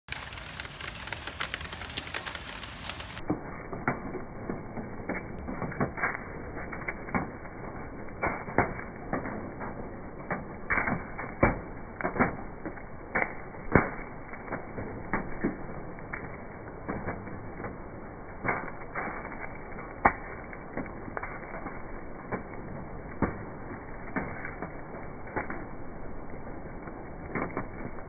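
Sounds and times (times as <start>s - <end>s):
wood fire crackling and popping: 0.1s - 28.0s.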